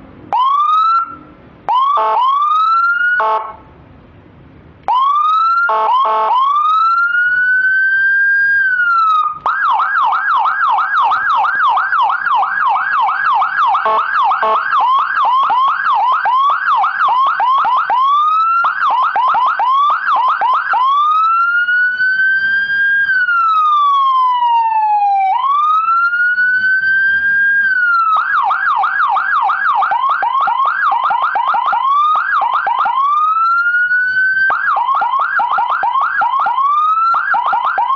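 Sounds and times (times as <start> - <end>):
electronic siren wail and yelp: 0.3 - 3.6, 4.9 - 37.9.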